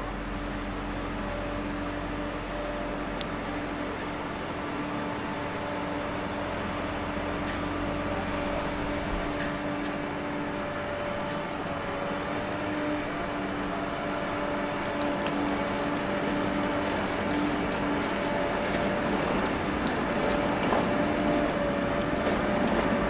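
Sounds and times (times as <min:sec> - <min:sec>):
city street noise: 0:00.0 - 0:23.0
truck engine humming: 0:00.0 - 0:23.0.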